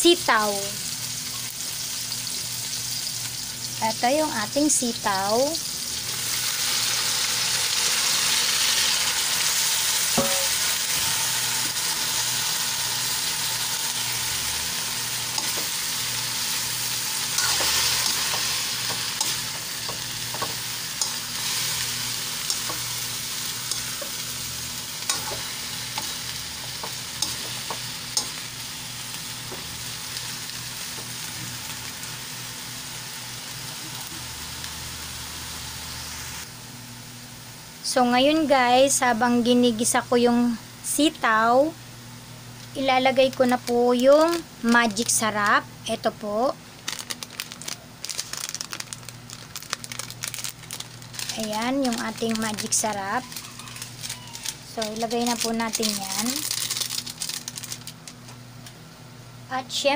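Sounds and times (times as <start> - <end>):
beans sizzling in hot oil: 0.0 - 40.0, 40.8 - 58.2.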